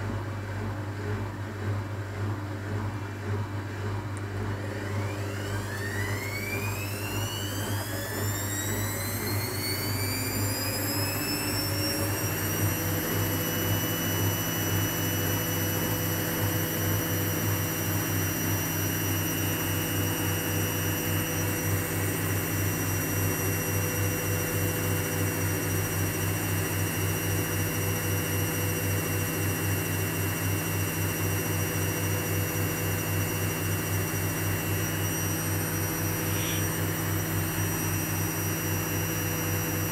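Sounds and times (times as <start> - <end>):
washing machine motor whine: 0.0 - 39.9.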